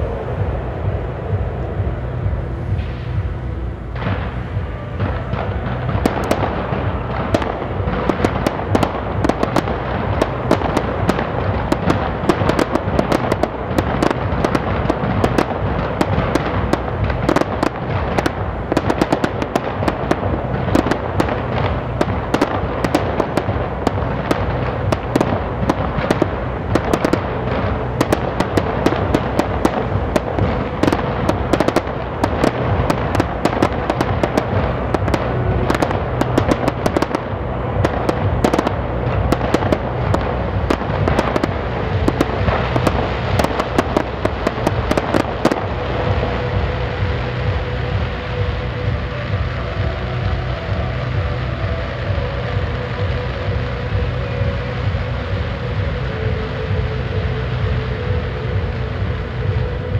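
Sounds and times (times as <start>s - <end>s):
fireworks popping and crackling: 0.0s - 59.9s.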